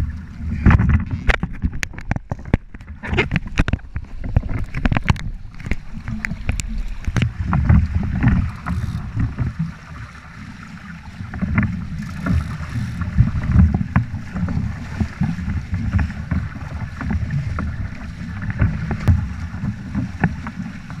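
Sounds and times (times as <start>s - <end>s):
water rushing past hulls: 0.0s - 21.0s
water splashes: 0.0s - 21.0s.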